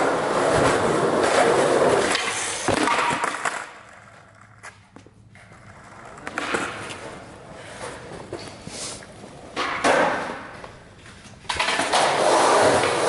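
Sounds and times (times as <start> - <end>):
skateboard wheels rolling on concrete: 0.0 - 13.0.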